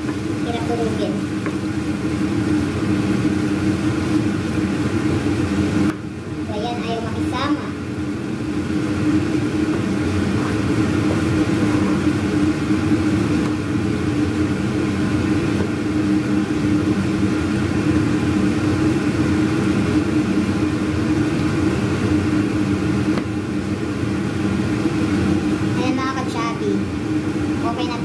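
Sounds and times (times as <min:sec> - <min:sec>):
food sizzling in a pan: 0:00.0 - 0:28.0
range hood fan humming: 0:00.0 - 0:28.0.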